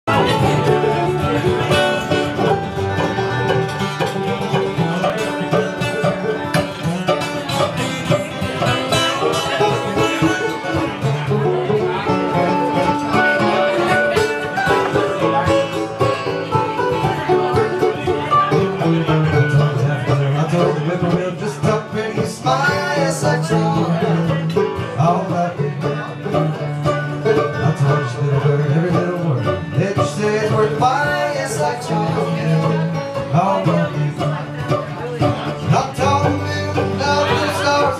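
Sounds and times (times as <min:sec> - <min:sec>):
banjo picking: 0:00.0 - 0:37.9
mandolin: 0:00.0 - 0:37.9
strummed acoustic guitar: 0:00.0 - 0:37.9.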